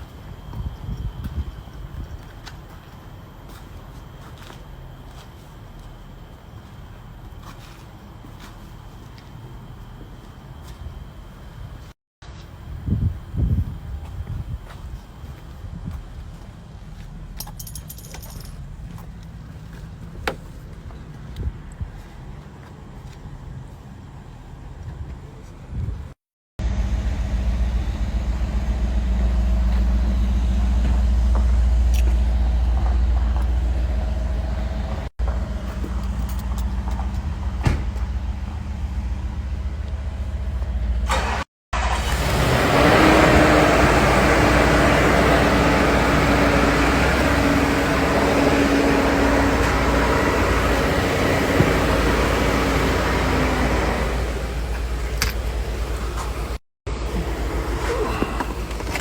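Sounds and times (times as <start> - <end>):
vehicle engine deep rumble: 0.0 - 59.0.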